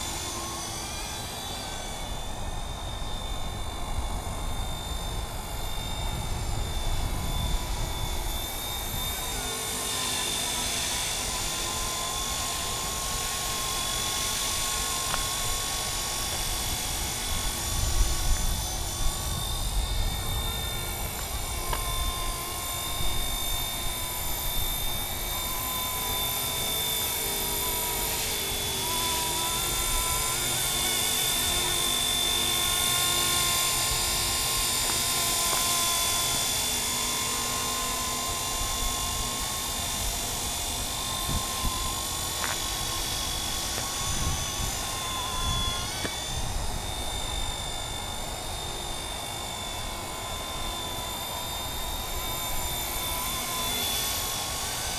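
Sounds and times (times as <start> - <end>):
model helicopter high whine: 0.0 - 54.9.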